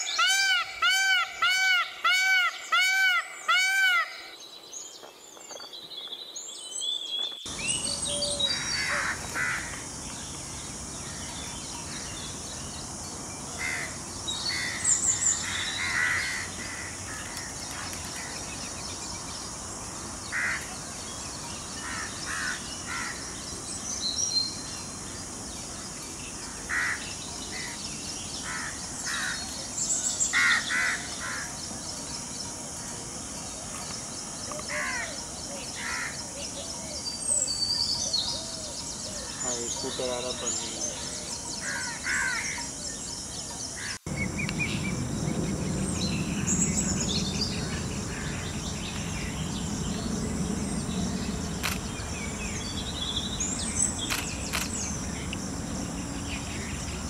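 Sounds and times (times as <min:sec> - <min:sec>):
steady high hiss: 0:07.3 - 0:57.0.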